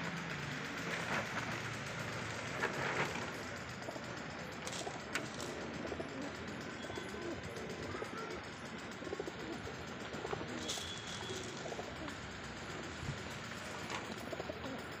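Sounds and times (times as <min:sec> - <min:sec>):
pigeons cooing: 0:02.8 - 0:15.0.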